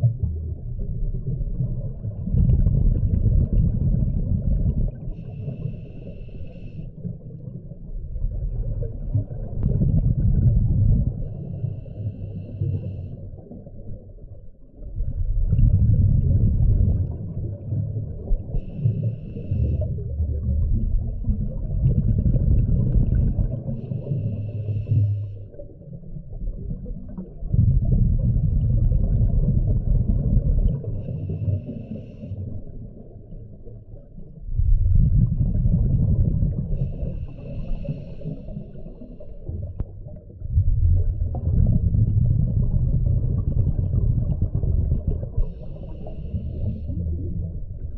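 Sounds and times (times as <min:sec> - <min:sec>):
diver exhaling bubbles underwater: 0:00.0 - 0:05.8, 0:07.4 - 0:14.0, 0:14.8 - 0:47.9.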